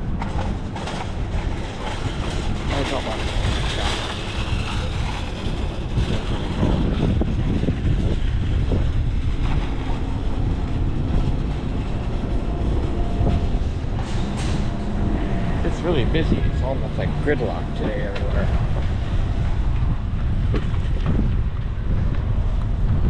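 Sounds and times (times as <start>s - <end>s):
passing road traffic: 0.0s - 23.0s
wind on the microphone: 0.0s - 23.0s.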